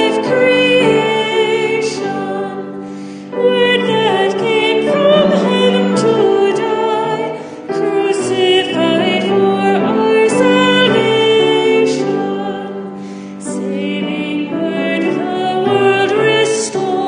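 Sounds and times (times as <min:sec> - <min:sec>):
hymn singing: 0:00.0 - 0:17.0.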